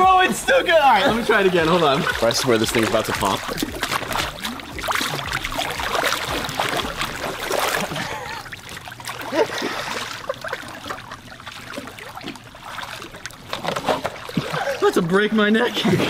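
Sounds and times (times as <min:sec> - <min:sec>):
water dripping off person: 0:00.0 - 0:15.0
pool water splashing: 0:00.0 - 0:16.0.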